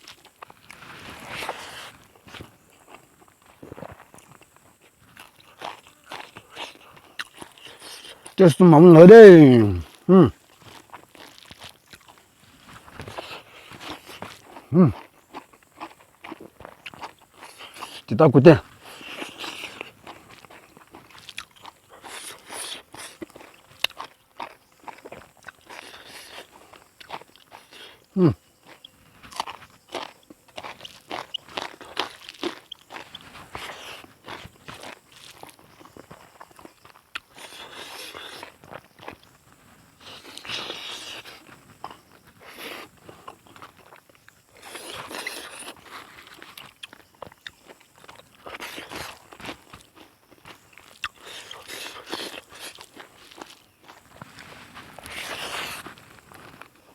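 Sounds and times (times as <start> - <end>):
crunching and chewing food: 0.0 - 56.9.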